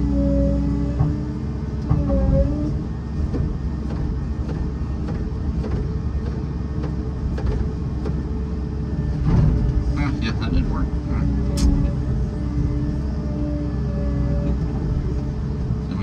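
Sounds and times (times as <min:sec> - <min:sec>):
diesel engine rumbling under load: 0:00.0 - 0:16.0.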